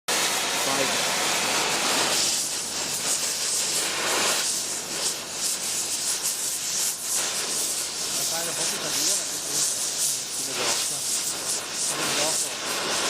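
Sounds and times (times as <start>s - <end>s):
torch flame hissing: 0.1s - 13.0s.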